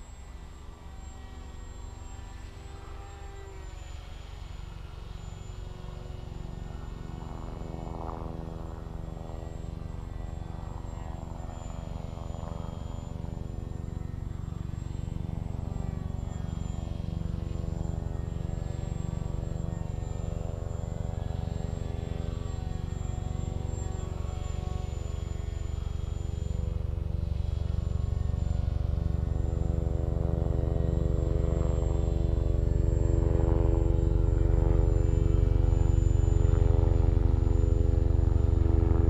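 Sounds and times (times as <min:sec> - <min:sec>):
aircraft drone: 0:00.0 - 0:39.0
thin high whine: 0:00.0 - 0:39.0.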